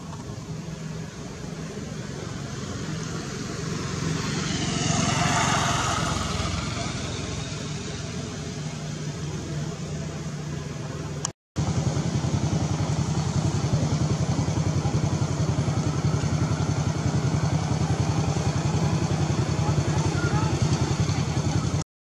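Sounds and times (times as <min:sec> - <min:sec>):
small engine running: 0:00.4 - 0:10.9, 0:11.6 - 0:21.8.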